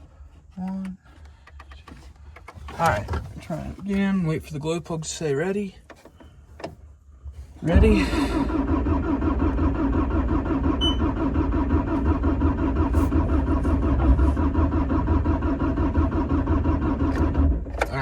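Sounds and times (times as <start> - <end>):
diesel engine cranking: 0.0 - 18.0.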